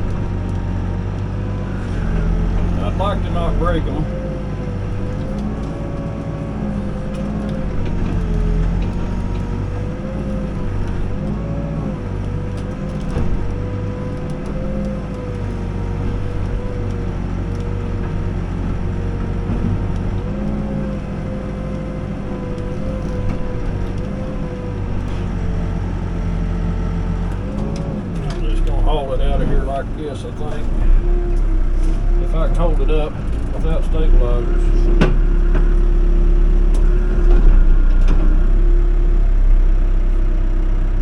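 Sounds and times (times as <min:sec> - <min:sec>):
diesel engine running under load: 0:00.0 - 0:41.0
hydraulic whine: 0:00.0 - 0:41.0.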